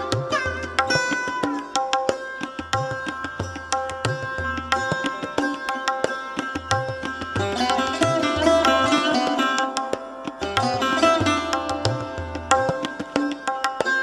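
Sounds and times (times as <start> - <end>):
plucked sarod notes: 0.0 - 14.0
tabla bass drum strokes: 0.0 - 14.0.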